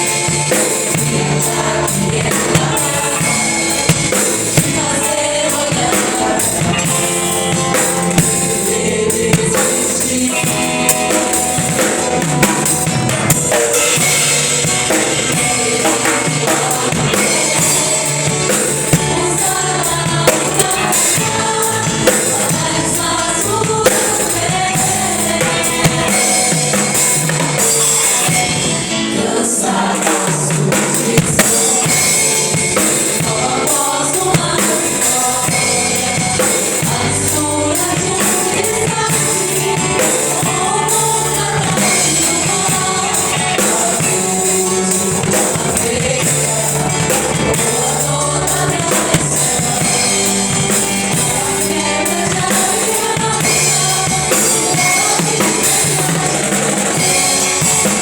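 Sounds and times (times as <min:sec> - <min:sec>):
band with drum kit: 0:00.0 - 0:58.0
group of voices singing: 0:00.0 - 0:58.0.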